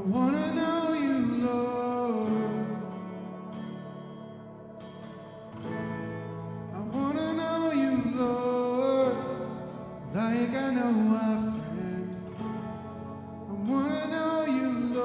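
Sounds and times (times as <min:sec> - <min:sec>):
person singing: 0:00.0 - 0:05.8, 0:06.7 - 0:15.0
instrumental accompaniment with guitar: 0:00.0 - 0:15.0.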